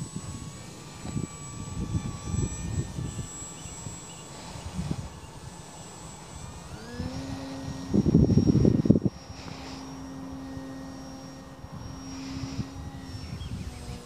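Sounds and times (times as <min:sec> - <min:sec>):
model plane electric motor whine: 0:00.0 - 0:14.0.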